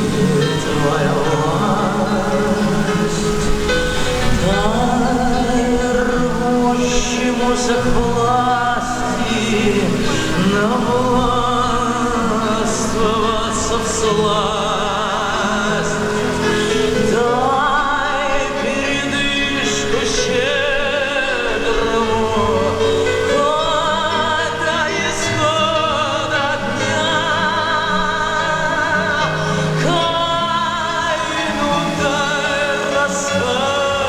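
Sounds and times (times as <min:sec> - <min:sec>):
instrumental backing: 0:00.0 - 0:34.0
operatic singing with vibrato: 0:00.0 - 0:34.0.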